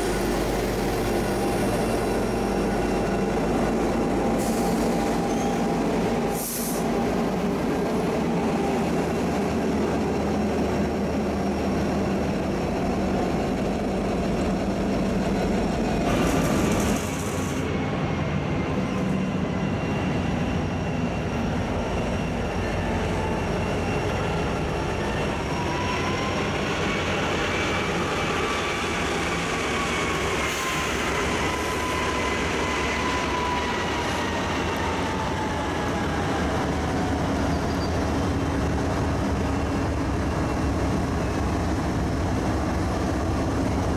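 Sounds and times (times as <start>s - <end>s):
steel wheels squealing on rail: 0.0s - 9.8s, 14.8s - 43.9s
diesel locomotive engines rumbling: 0.0s - 43.9s.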